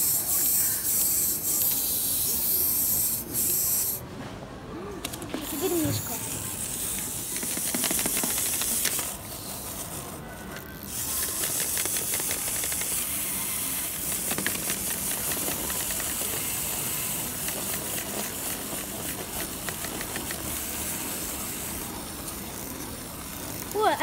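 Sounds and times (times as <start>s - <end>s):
clockwork toy motor whirring: 0.0s - 4.0s, 5.0s - 24.0s.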